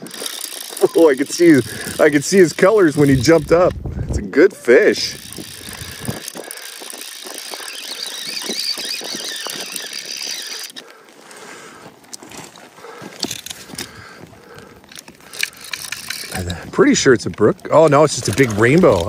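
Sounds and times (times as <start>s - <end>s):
fly reel drag whirring: 0.0s - 11.2s, 14.8s - 19.0s
reel clicking: 0.0s - 11.2s, 13.2s - 19.0s.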